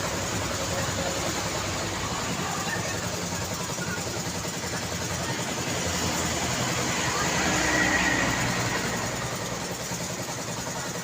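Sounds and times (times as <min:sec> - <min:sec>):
cars and motorcycles passing: 0:00.0 - 0:11.0.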